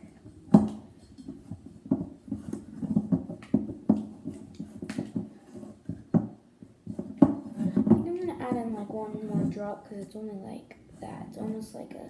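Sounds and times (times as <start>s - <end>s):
knocks and scrapes against bowl: 0.0s - 10.2s
tool stirring glue in a bowl: 0.0s - 12.0s.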